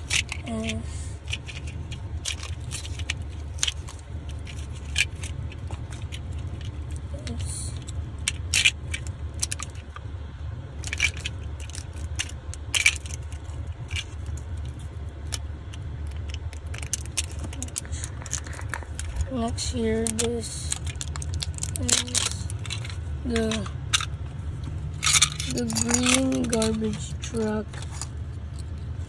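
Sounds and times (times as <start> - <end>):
car interior rumble: 0.0 - 29.0.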